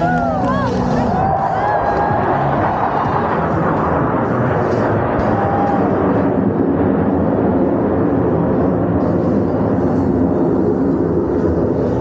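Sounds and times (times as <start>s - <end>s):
jet engine noise overhead: 0.0s - 12.0s.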